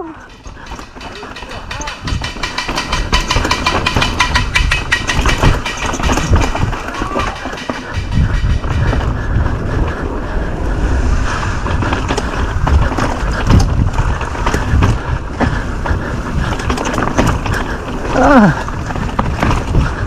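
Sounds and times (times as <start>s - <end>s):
bike knocks and rattles: 0.0s - 10.1s, 11.6s - 20.0s
tyres rumbling on rough ground: 0.0s - 20.0s
wind buffeting microphone: 0.0s - 20.0s.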